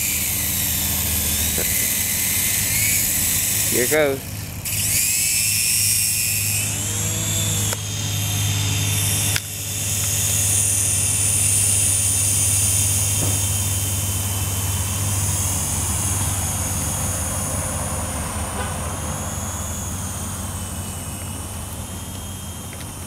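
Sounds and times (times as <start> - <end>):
toy helicopter whirring: 0.0 - 23.0.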